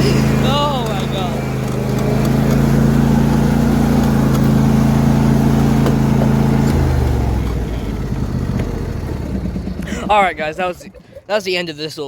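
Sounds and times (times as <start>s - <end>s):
lawn mower engine running: 0.0s - 11.3s.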